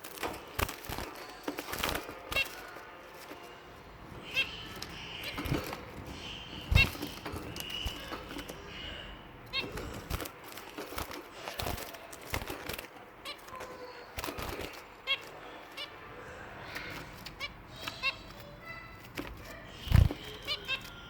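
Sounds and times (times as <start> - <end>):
finches calling: 4.1 - 21.0.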